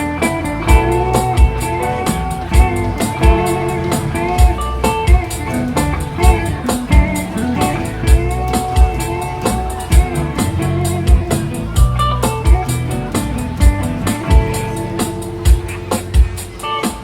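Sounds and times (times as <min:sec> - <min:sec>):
guitar lines: 0:00.0 - 0:17.0
steady drum beat: 0:00.0 - 0:17.0.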